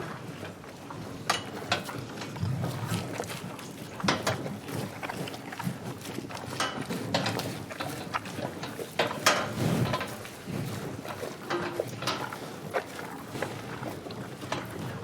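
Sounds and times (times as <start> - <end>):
cows snuffling breaths: 0.0 - 15.0
cows tearing and chewing grass: 0.0 - 15.0.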